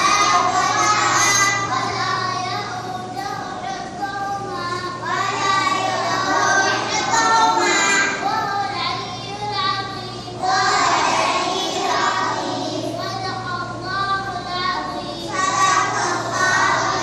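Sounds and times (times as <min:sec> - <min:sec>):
children singing: 0:00.0 - 0:17.0.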